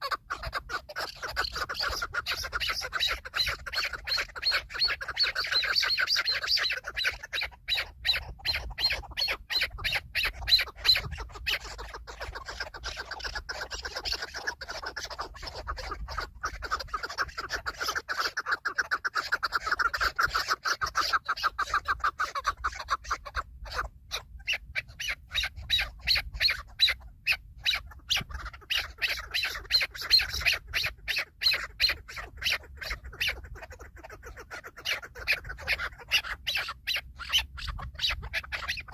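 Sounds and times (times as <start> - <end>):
partridge clucking calls: 0.0 - 38.9.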